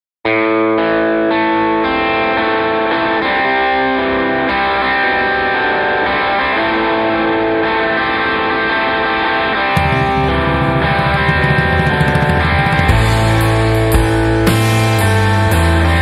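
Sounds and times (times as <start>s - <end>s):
electric guitar playing chords: 0.3s - 16.0s.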